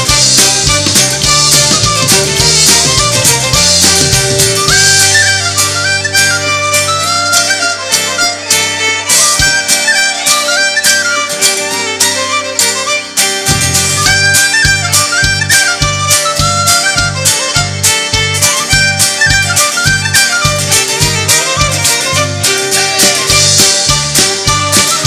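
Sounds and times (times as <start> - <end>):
acoustic guitar: 0.0 - 25.0
drums and bass beat: 0.0 - 25.0
fiddle: 0.0 - 25.0
harmonica melody: 0.0 - 25.0.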